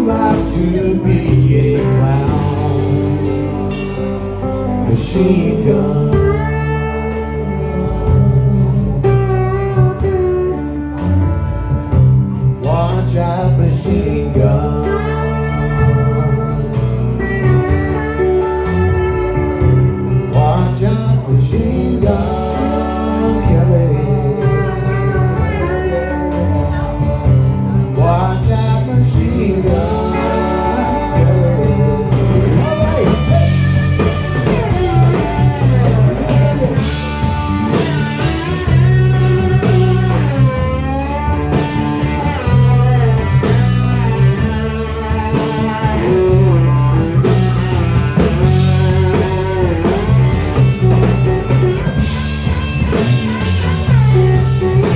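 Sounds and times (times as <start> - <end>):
lead guitar solo with bending notes: 0.0 - 21.6, 22.2 - 29.0, 29.6 - 54.9
blues-rock band playing: 0.0 - 54.9.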